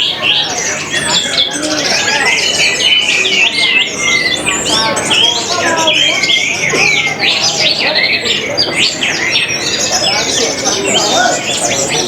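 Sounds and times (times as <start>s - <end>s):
thrushes singing: 0.0s - 12.0s.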